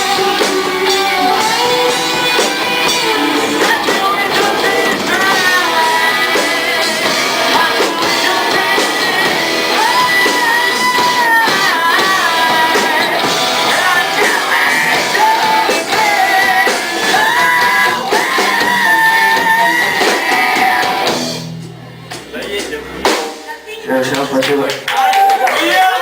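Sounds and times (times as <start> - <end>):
rock song with singing: 0.0 - 26.0.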